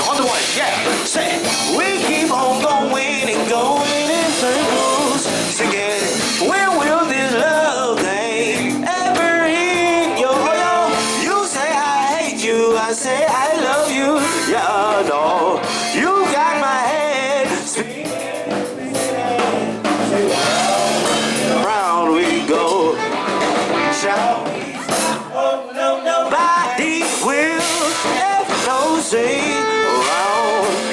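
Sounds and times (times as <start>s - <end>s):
live funk-rock band: 0.0s - 25.4s, 26.2s - 30.9s.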